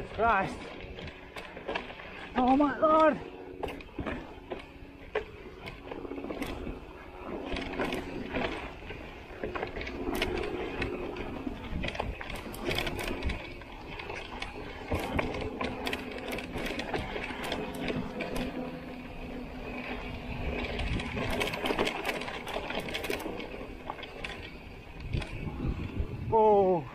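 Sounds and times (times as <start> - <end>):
bicycle clattering over stones: 0.0 - 26.0
bicycle freewheel hub buzzing: 0.0 - 26.9.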